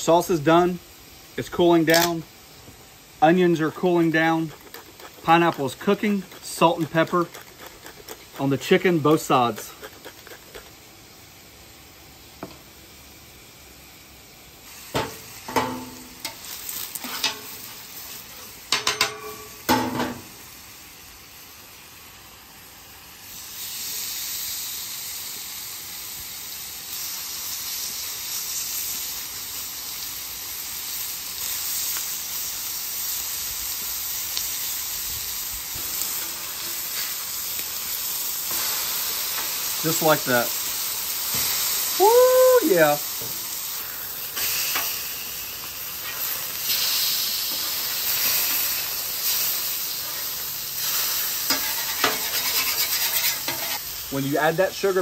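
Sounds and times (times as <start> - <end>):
chicken sizzling on griddle: 0.0 - 55.0.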